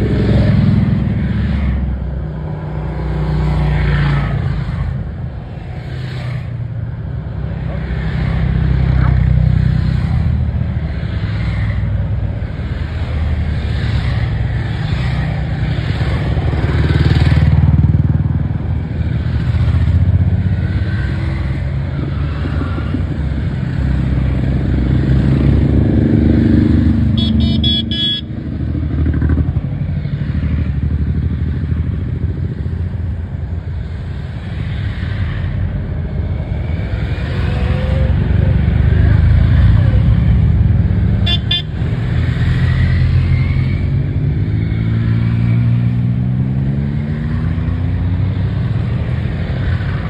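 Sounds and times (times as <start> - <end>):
motorcycles riding past: 0.0 - 50.0.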